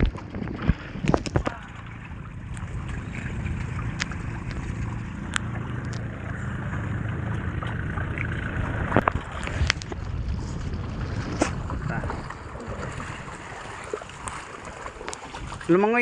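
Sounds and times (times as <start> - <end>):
boat motor running: 0.0 - 16.0
wind and water noise: 0.0 - 16.0.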